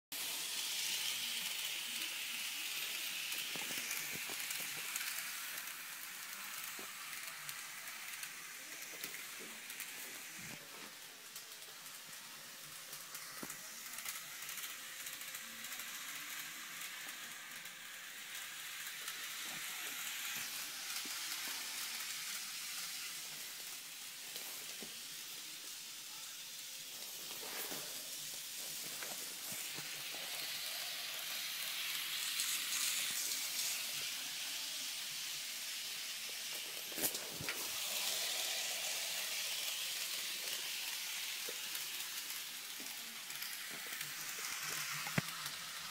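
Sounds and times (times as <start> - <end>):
model train running on track: 0.2 - 45.9.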